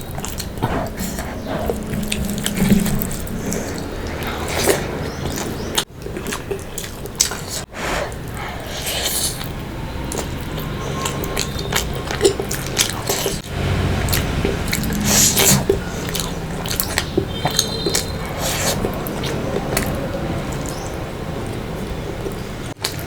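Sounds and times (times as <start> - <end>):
sharp mouth clicks: 0.0 - 23.0
wet chewing and lip smacks: 0.0 - 23.0.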